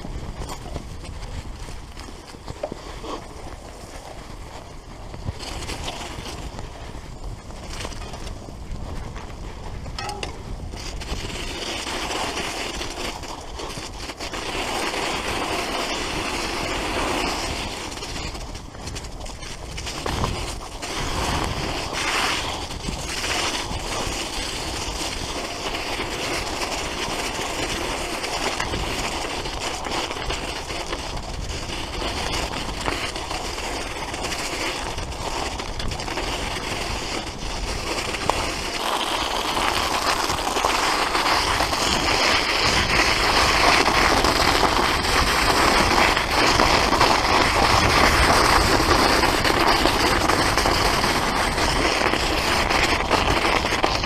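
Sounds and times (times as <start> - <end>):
bike rattling over rough ground: 0.0 - 54.0.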